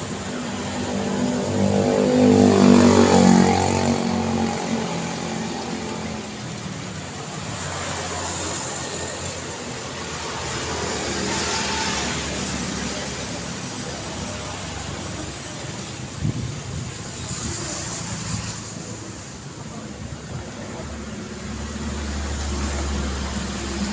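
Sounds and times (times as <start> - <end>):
road traffic passing: 0.0 - 23.9
vehicle engine passing close: 0.0 - 23.9.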